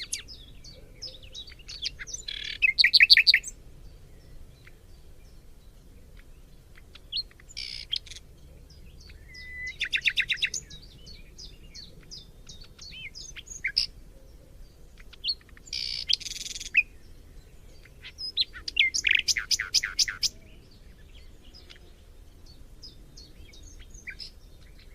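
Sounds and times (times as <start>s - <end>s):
songbirds chirping and trilling: 0.0s - 24.9s.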